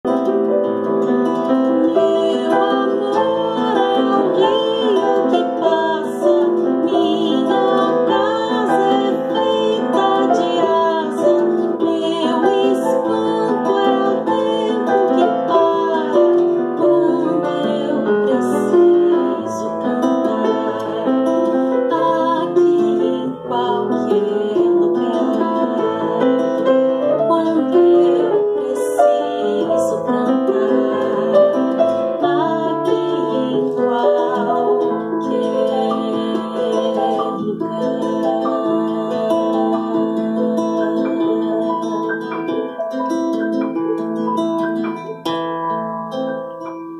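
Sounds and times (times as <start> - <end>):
acoustic guitar: 0.0 - 46.9
grand piano: 0.0 - 46.9
woman singing: 1.4 - 43.5.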